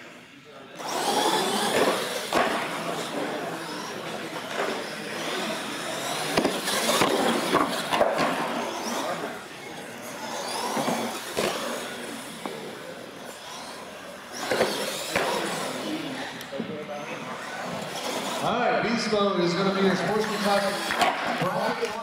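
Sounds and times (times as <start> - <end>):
electric toy truck motors whining: 0.8 - 18.5.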